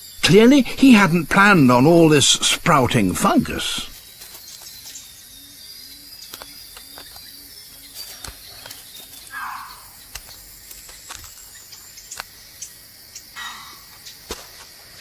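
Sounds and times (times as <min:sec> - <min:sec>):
high insect hiss: 0:00.0 - 0:15.0.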